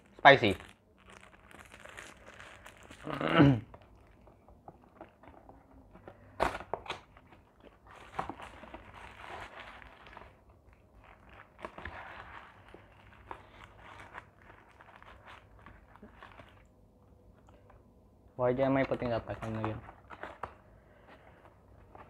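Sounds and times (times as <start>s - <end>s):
paper rustling and crinkling: 0.0s - 16.7s, 18.7s - 22.0s.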